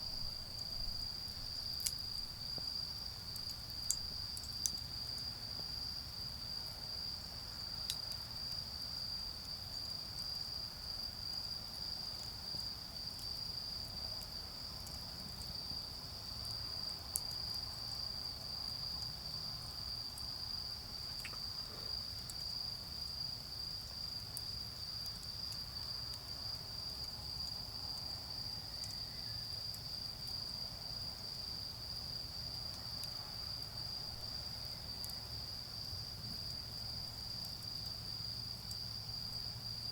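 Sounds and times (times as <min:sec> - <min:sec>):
insects trilling: 0:00.0 - 0:07.9, 0:14.8 - 0:39.9.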